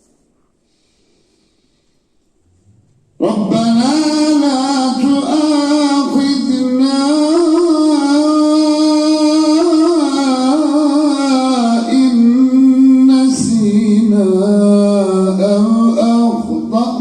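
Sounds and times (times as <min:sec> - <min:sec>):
person chanting melodic recitation: 0:03.2 - 0:17.0.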